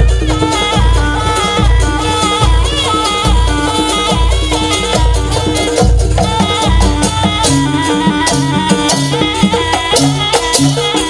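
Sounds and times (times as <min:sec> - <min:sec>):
gamelan music over loudspeakers: 0:00.0 - 0:11.0
heavy low drum beat: 0:00.0 - 0:11.0
wavering high melody: 0:00.0 - 0:11.0.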